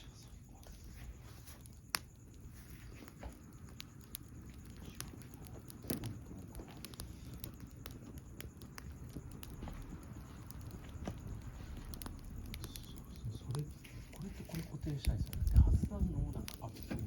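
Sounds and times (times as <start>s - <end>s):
campfire crackling: 0.0s - 17.0s
low steady rumble: 0.0s - 17.0s.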